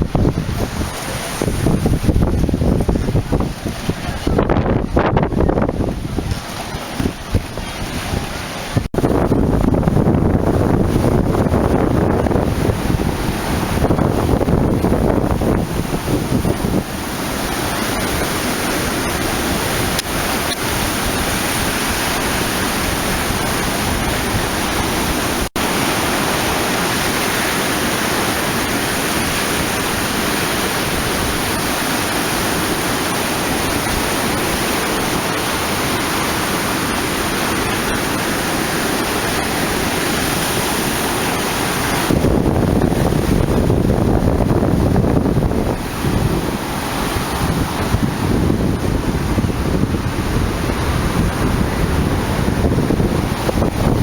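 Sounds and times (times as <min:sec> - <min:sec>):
sea waves breaking: 0:00.0 - 0:54.0
wind buffeting microphone: 0:00.0 - 0:54.0.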